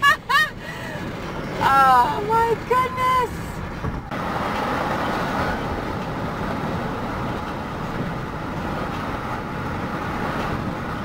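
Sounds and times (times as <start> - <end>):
car engine hum: 0.0 - 11.0
road and tyre noise: 0.0 - 11.0.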